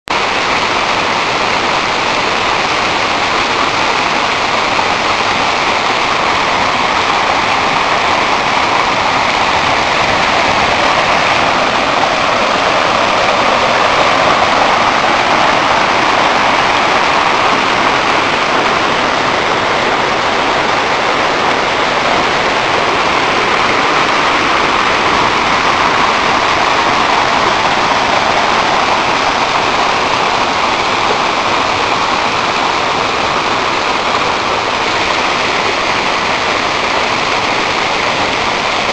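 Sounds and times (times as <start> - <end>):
waterfall rushing over boulders: 0.0 - 38.9.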